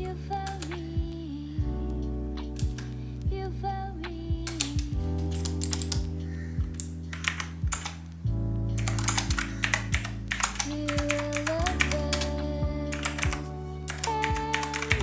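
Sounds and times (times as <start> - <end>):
background music with bass line: 0.0 - 15.0.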